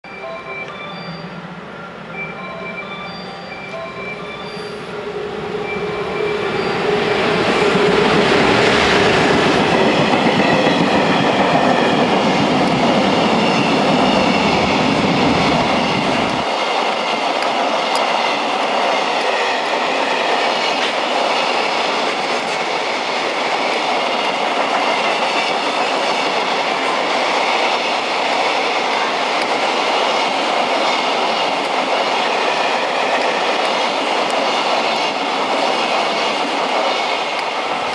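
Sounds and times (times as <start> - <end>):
electric locomotive passing: 0.0 - 37.9.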